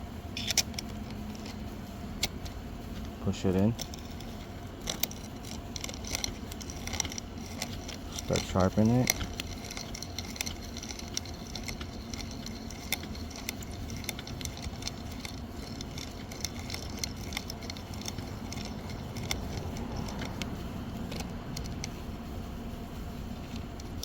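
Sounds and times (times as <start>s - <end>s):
small metallic clicks and rattles: 0.4s - 1.6s, 2.2s - 22.0s
stone scraping chain tooth: 0.4s - 1.6s, 3.5s - 21.9s.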